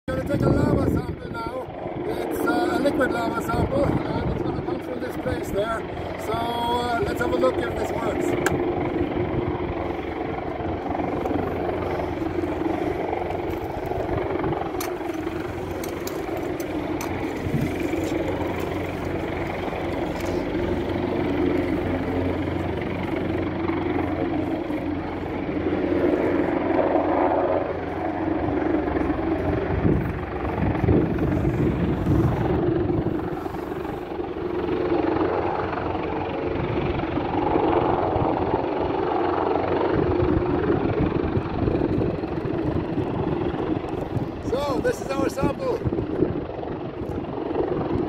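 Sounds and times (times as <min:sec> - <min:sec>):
steady mechanical drone: 0:00.1 - 0:48.0
low hum: 0:01.1 - 0:48.0.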